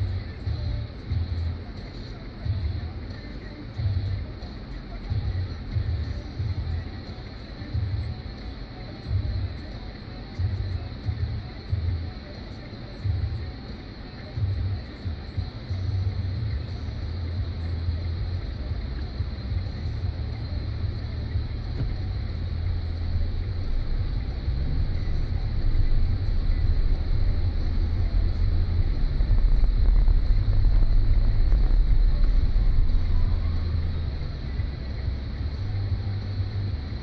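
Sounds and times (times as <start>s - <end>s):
car engine rumble: 0.0s - 37.0s
road noise inside car: 0.0s - 37.0s.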